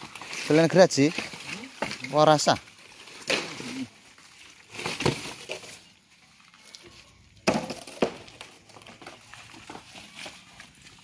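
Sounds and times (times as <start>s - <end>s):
bamboo and rubble clattering: 0.0s - 11.0s.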